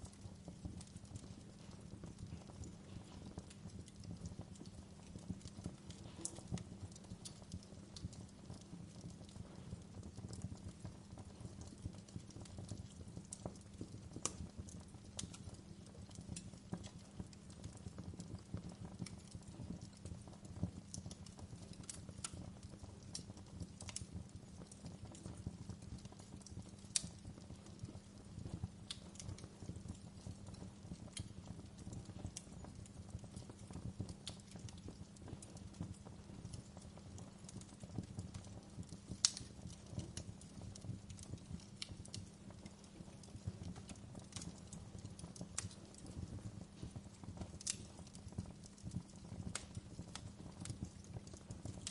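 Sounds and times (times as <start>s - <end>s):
fire pops and snaps: 0.0s - 51.9s
low rumble of flames: 0.0s - 51.9s
wood fire crackling: 0.0s - 51.9s.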